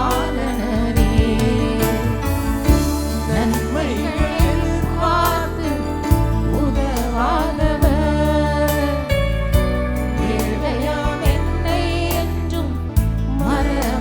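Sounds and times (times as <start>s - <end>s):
instrumental accompaniment with beat: 0.0s - 14.0s
person singing with vibrato: 0.0s - 14.0s.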